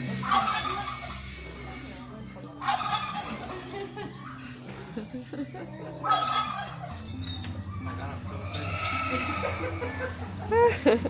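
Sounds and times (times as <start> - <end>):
turkey gobbling: 0.0 - 1.8, 2.5 - 4.6, 5.5 - 10.6
faint background music: 0.0 - 11.0.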